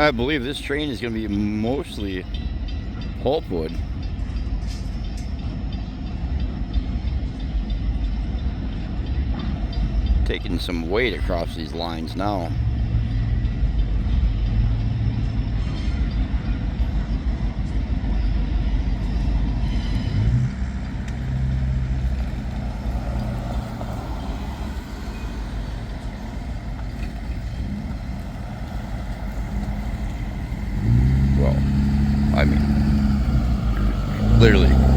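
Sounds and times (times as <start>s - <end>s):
diesel locomotive drone: 0.0s - 34.9s.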